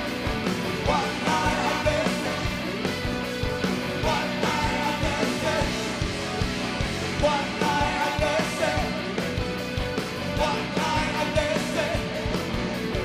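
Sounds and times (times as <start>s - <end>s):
driving drum beat: 0.0s - 13.0s
live rock band playing: 0.0s - 13.0s.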